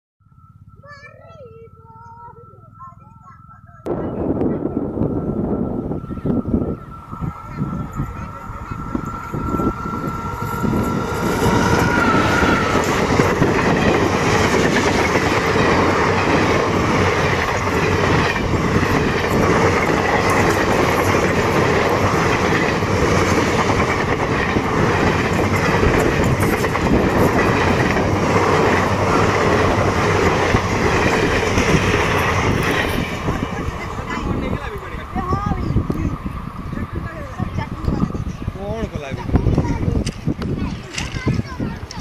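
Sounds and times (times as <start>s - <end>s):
train passing at speed: 0.3s - 42.0s.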